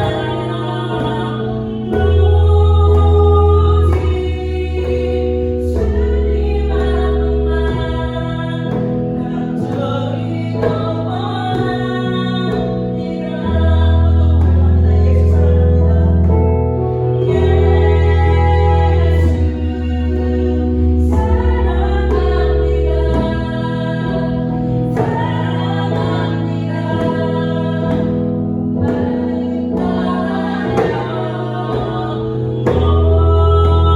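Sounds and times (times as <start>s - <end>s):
person singing: 0.0s - 33.9s
sustained chordal accompaniment: 0.0s - 33.9s.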